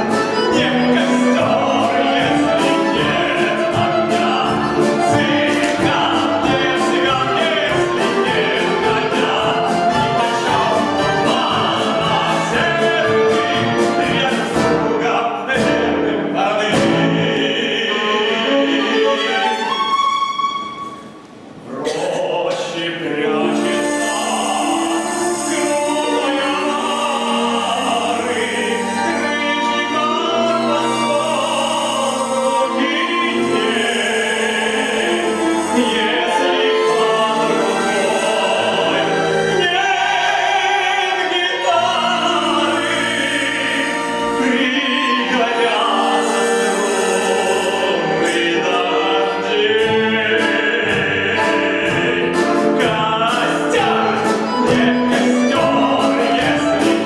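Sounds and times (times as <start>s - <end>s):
man singing: 0.0s - 19.6s, 21.7s - 57.0s
sharp rhythmic beats: 0.0s - 19.9s, 24.2s - 57.0s
orchestra playing: 0.0s - 57.0s.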